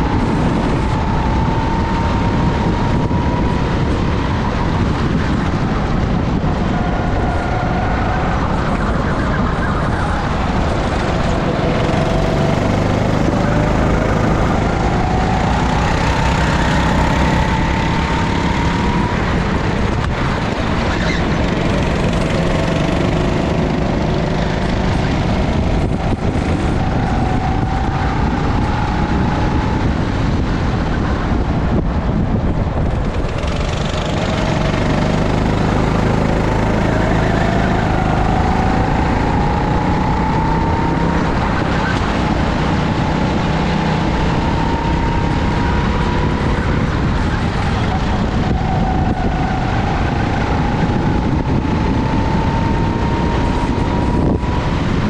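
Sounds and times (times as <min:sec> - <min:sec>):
go-kart engine accelerating: 0:00.0 - 0:55.0
wind noise on microphone: 0:00.0 - 0:55.0.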